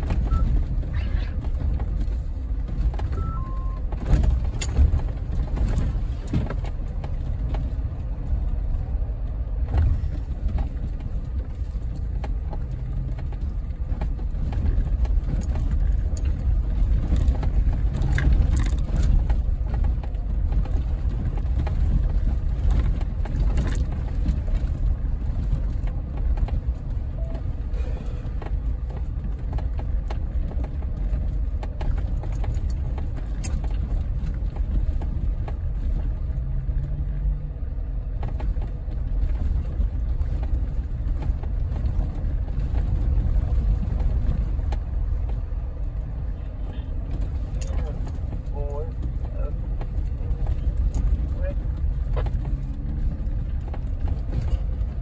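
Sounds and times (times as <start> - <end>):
car engine rumble inside cabin: 0.0 - 55.0
knocks and rattles over bumps: 0.0 - 55.0.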